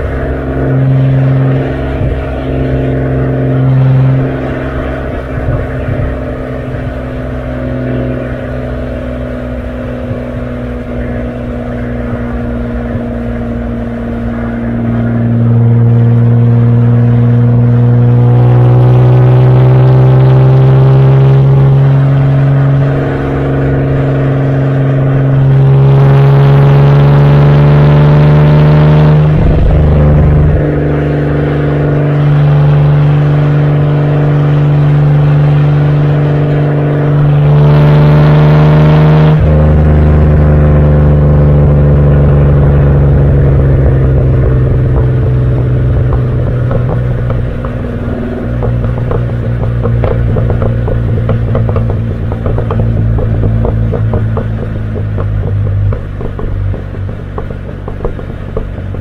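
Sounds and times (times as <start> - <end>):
car exhaust while driving: 0.0 - 59.0.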